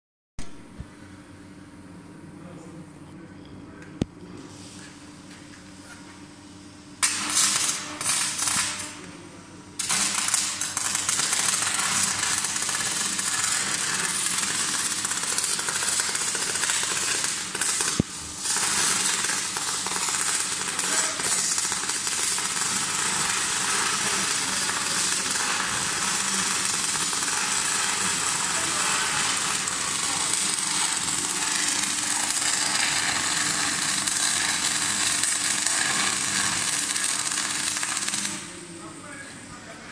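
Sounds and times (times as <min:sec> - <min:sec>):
arc welding crackling and sizzling: 0:07.0 - 0:39.2.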